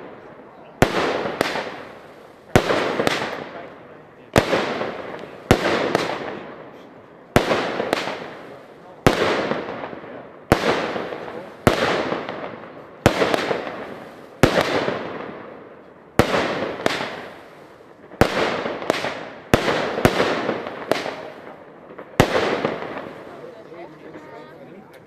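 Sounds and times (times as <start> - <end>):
fireworks banging and crackling: 0.0 - 25.0.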